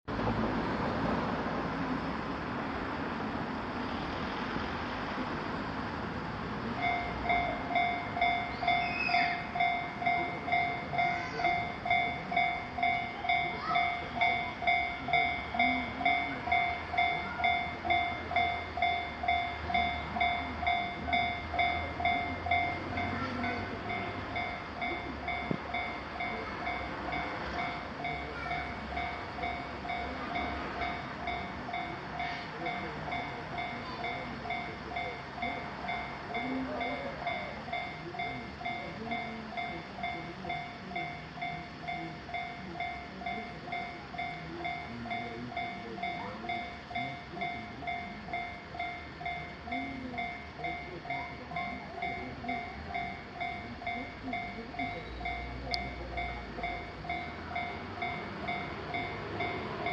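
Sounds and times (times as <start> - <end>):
level crossing bell dinging: 6.8 - 59.9.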